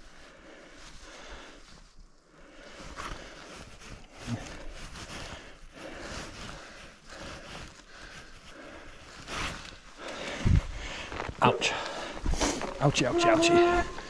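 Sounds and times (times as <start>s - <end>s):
bike tyres and rattle on trail: 0.0s - 14.0s.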